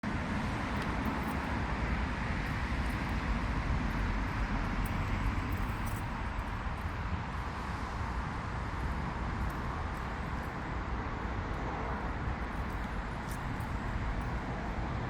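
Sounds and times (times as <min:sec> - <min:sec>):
low rumble of running vehicles: 0:00.0 - 0:15.0.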